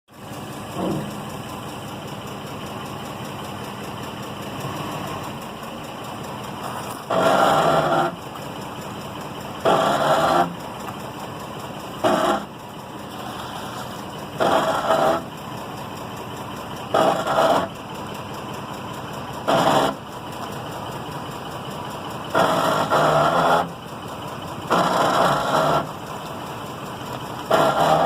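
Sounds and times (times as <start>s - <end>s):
truck rear axle grinding: 0.5s - 28.0s.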